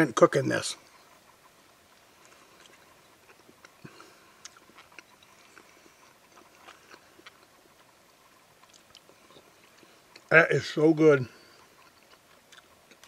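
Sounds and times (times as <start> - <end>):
man chewing: 0.8 - 10.3, 11.3 - 13.0.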